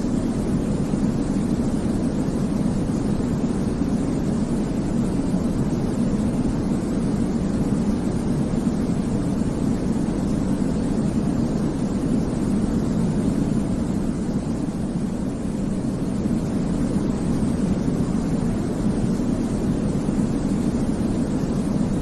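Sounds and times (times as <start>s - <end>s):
low-pitched white noise hiss: 0.0s - 22.0s.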